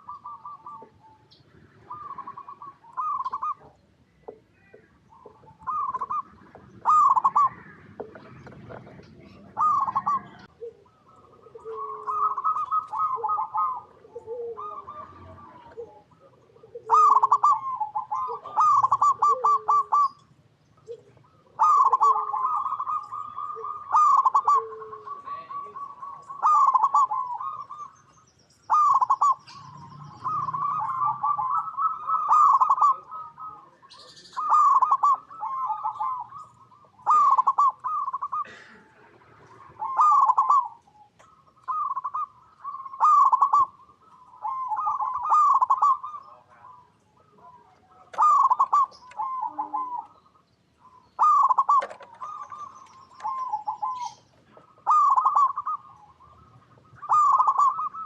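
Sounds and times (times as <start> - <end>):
dove cooing: 0.0 - 58.0.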